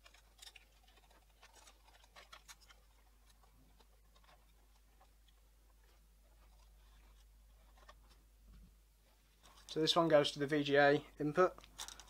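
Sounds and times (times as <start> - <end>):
faint clicks and scrapes: 0.0 - 12.0.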